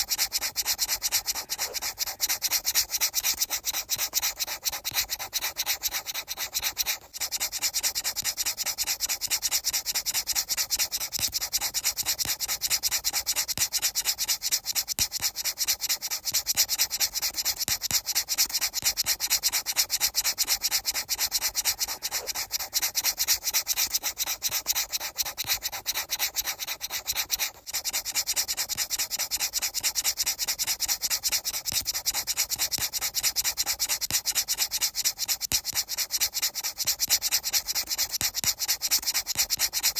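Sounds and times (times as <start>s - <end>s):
fast scratchy rubbing strokes: 0.0s - 39.9s.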